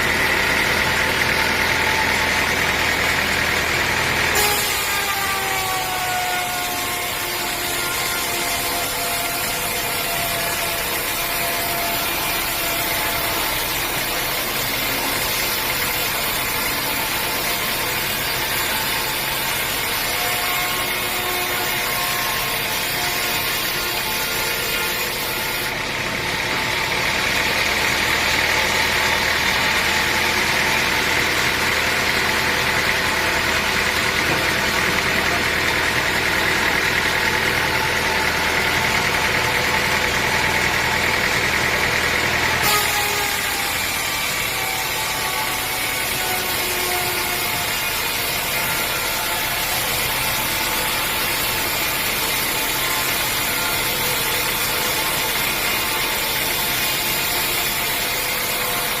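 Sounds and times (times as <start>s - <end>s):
saw whining: 0.0s - 59.0s.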